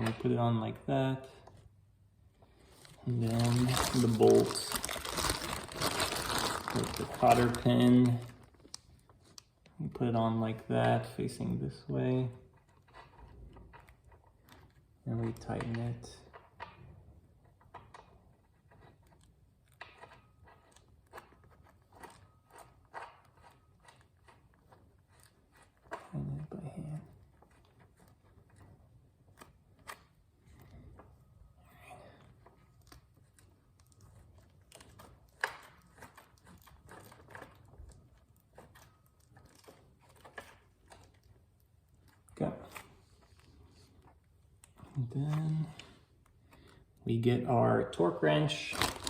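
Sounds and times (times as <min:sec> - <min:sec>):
faint clicks and scrapes: 0:01.2 - 0:49.0.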